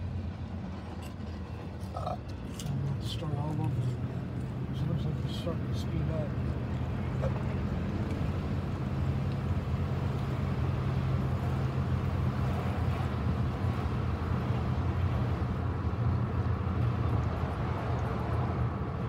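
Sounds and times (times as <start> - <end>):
tyres on road: 0.0 - 19.0
vehicle engine droning: 0.0 - 19.0.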